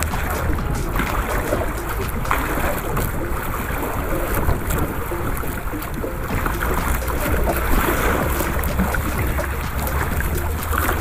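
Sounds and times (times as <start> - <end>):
sea water splashing against boat: 0.0 - 11.0
wind noise on microphone: 0.0 - 11.0.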